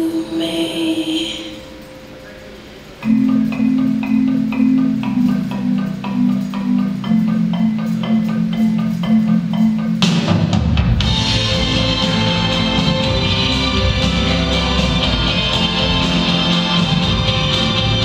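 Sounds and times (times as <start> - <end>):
recorded band music: 1.7 - 18.0.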